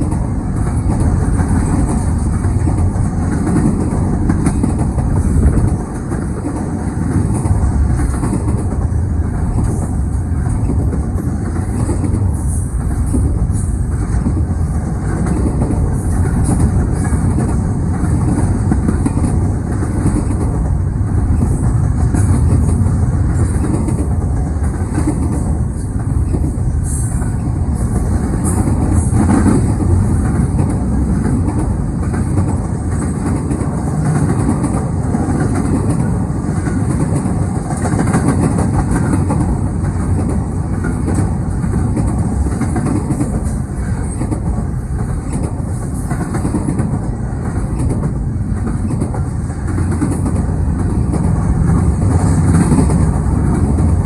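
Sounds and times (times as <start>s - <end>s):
freight train cars rolling on track: 0.0s - 54.0s.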